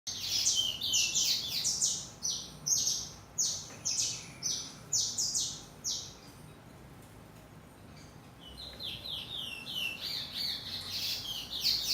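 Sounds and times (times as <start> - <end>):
songbird high chirps: 0.1 - 6.6, 7.9 - 11.9.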